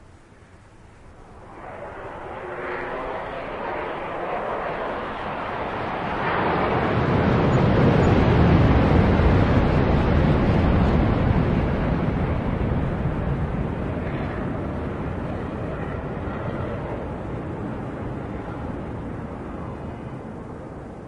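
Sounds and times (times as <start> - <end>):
aircraft engine rumble: 0.0 - 21.0.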